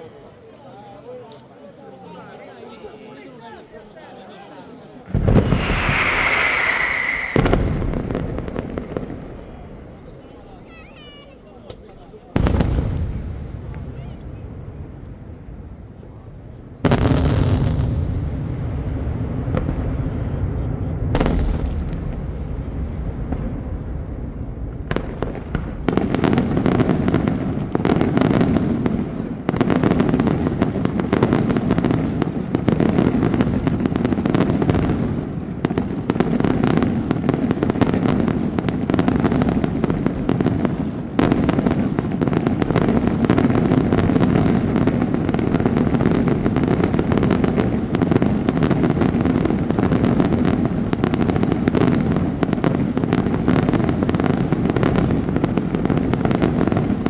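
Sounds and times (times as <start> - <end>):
fireworks bangs and crackles: 5.0 - 57.0.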